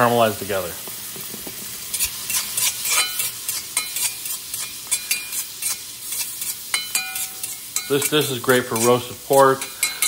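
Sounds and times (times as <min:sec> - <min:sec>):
vegetables sizzling in a wok: 0:00.0 - 0:10.0
metal spatula scraping wok: 0:01.8 - 0:10.0.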